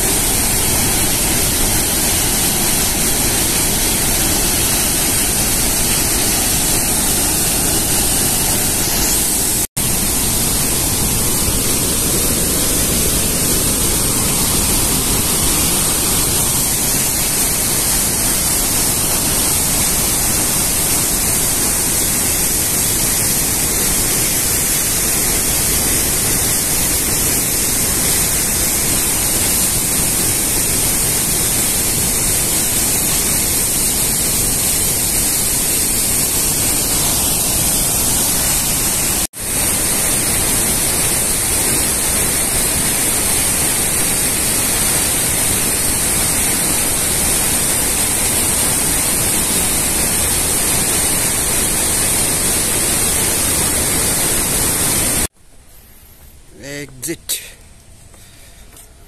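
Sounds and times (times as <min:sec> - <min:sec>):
waterfall rushing: 0:00.0 - 0:55.3.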